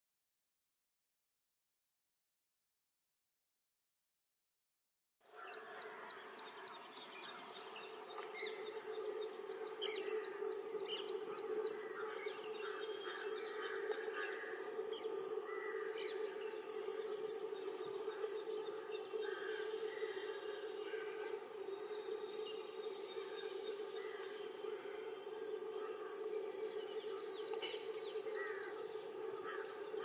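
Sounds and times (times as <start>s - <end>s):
birds chirping: 5.4s - 30.0s.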